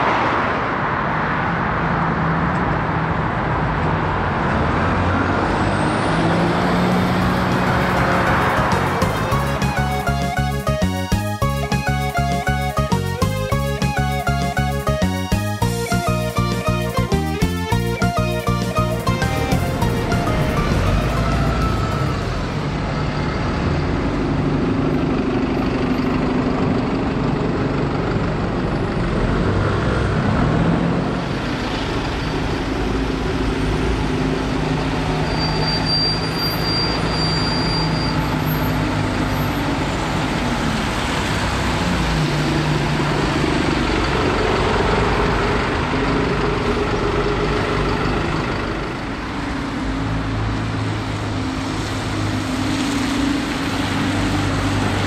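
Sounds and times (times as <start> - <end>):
bus engines pulling away: 0.0 - 55.0
road traffic noise: 0.0 - 55.0.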